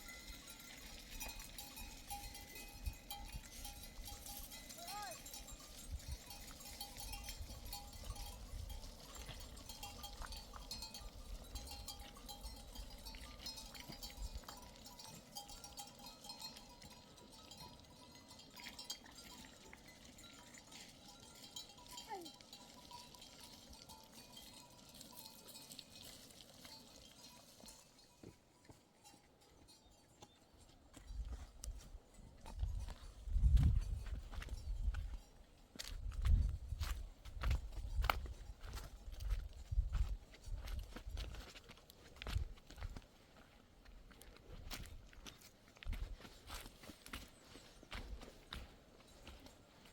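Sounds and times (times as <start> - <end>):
sheep bells clinking: 0.0 - 49.9.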